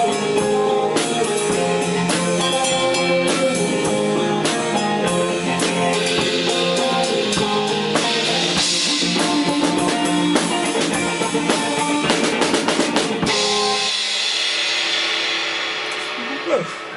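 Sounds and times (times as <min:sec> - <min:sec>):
guitar chord ringing: 0:00.0 - 0:14.4
instrumental rock band: 0:00.0 - 0:16.9
drum run: 0:01.1 - 0:16.9.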